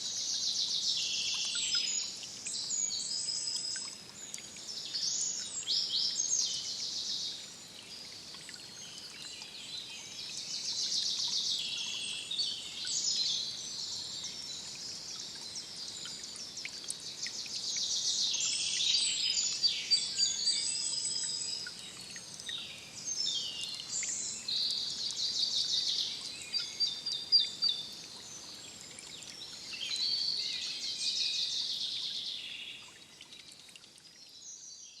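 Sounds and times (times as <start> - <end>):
faint background hiss: 0.0 - 35.0
songbirds chirping and trilling: 0.0 - 35.0.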